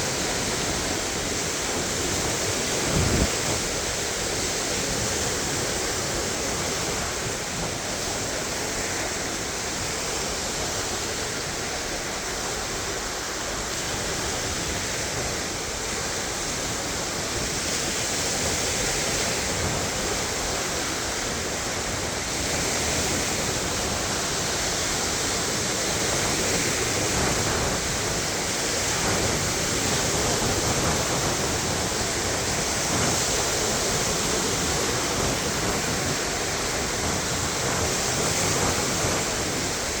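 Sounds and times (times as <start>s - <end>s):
waves washing onto beach: 0.0s - 40.0s.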